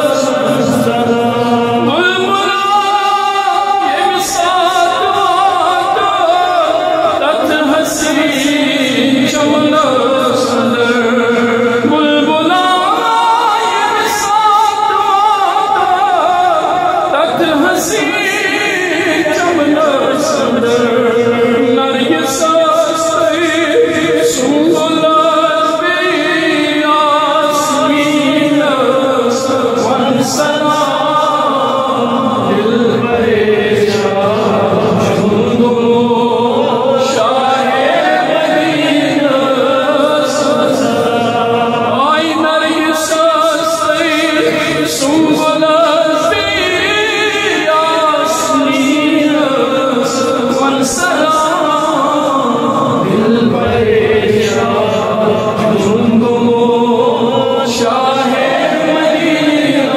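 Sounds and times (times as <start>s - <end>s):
devotional singing with backing voices: 0.0s - 59.9s.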